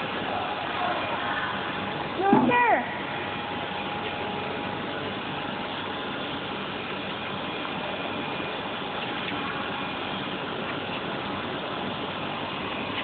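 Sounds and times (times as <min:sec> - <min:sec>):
faint constant whine: 0:00.0 - 0:13.0.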